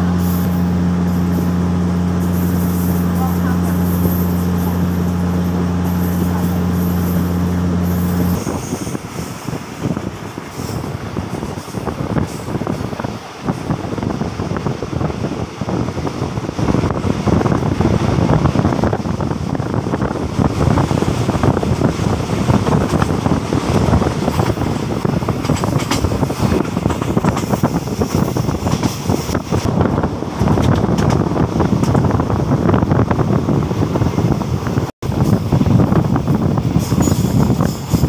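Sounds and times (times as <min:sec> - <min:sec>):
train wheels rumbling: 0:00.0 - 0:38.0
wind rushing past window: 0:00.0 - 0:38.0.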